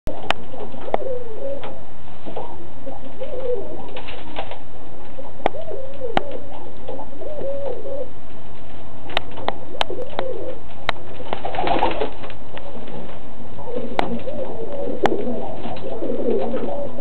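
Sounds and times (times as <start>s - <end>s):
pigeons cooing: 0.1s - 17.0s.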